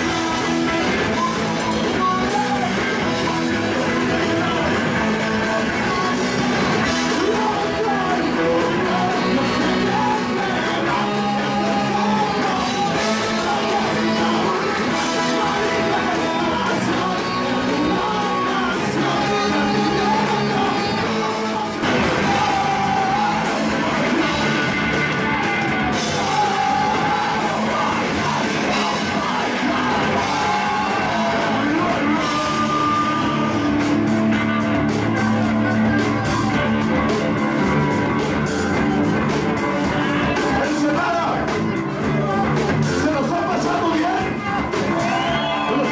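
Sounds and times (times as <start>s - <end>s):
electric guitar: 0.0s - 45.9s
shouted vocals: 0.0s - 45.9s
ska punk band playing: 0.0s - 45.9s.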